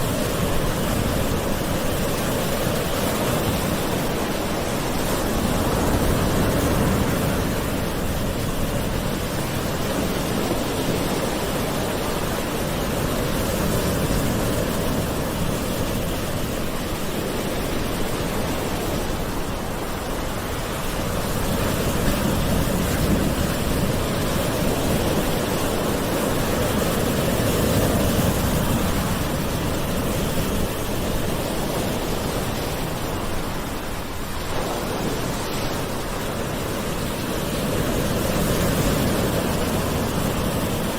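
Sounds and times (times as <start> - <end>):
ocean waves washing on shore: 0.0 - 40.9.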